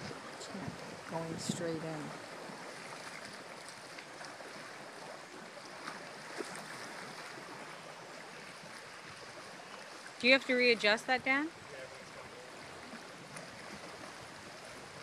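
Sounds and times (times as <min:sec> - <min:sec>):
waves lapping against shore: 0:00.0 - 0:15.0.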